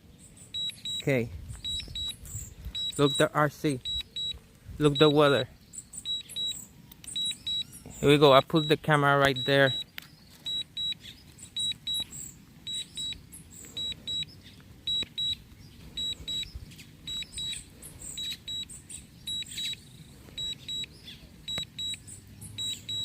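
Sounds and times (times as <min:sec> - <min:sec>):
high electronic warning beeps: 0:00.4 - 0:23.0.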